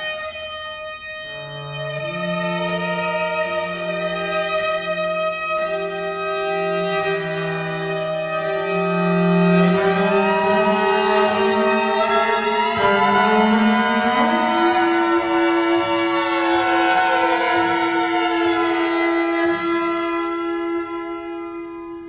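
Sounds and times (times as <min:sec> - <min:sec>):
bowed strings playing: 0:00.0 - 0:22.0.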